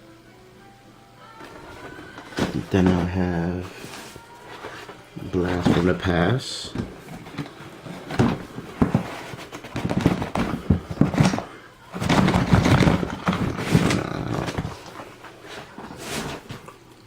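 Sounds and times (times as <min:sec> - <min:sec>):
packages knocking and clicking: 0:01.3 - 0:16.9
packaging rustling: 0:01.3 - 0:17.0.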